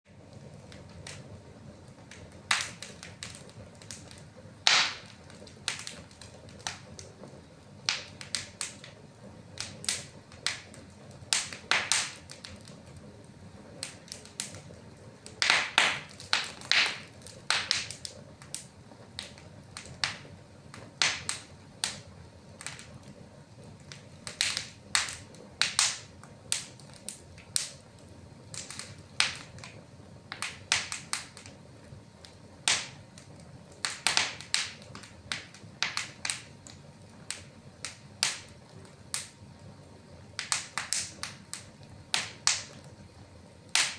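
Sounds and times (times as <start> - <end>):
fire crackling and popping: 0.1 - 43.9.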